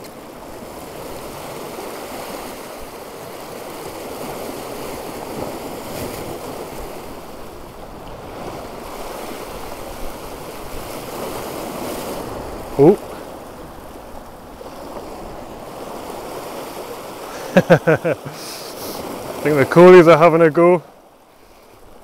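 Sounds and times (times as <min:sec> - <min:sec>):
surf breaking over rocks: 0:00.0 - 0:22.0.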